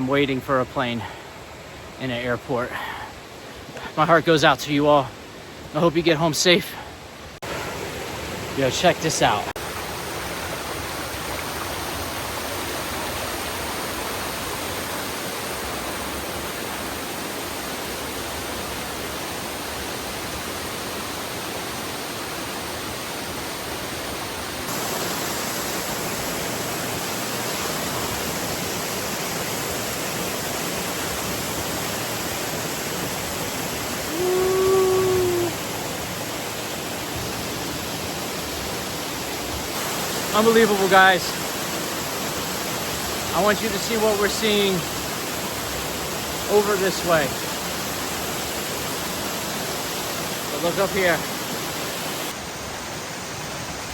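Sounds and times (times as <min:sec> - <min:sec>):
fast-flowing water rushing: 0:00.0 - 0:53.9.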